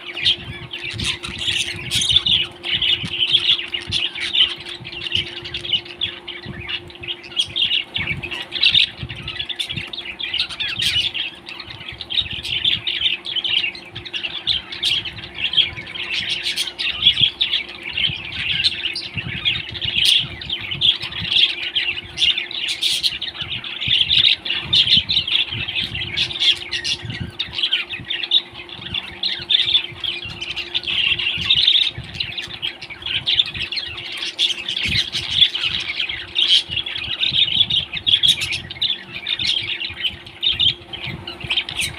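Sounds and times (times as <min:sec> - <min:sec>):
parrots chirping and squawking: 0:00.0 - 0:41.9.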